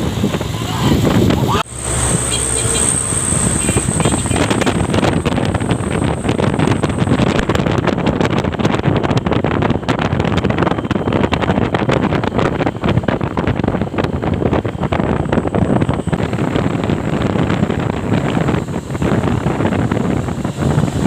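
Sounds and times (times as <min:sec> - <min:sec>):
truck engine and road noise: 0:00.0 - 0:21.0
wind buffeting microphone: 0:00.0 - 0:21.0.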